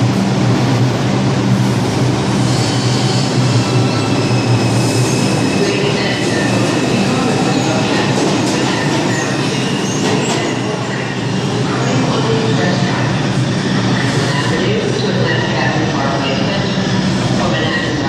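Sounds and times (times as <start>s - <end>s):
subway train rumbling on rails: 0.0s - 18.0s.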